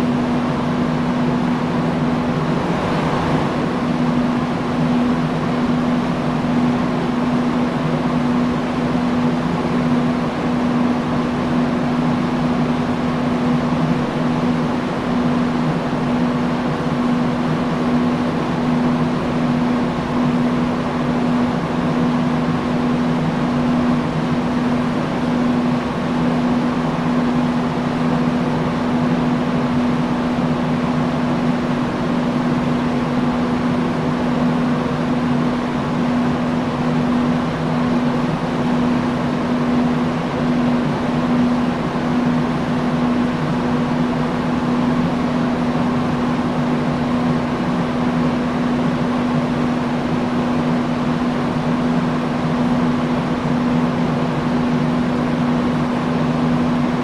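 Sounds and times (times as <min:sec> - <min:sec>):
fan motor hum: 0:00.0 - 0:57.0
industrial fan air rush: 0:00.0 - 0:57.0.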